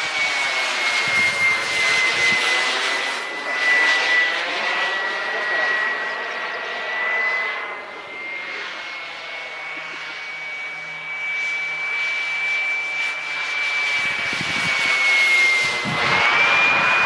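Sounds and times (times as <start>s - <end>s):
jet turbine whine: 0.0s - 17.0s.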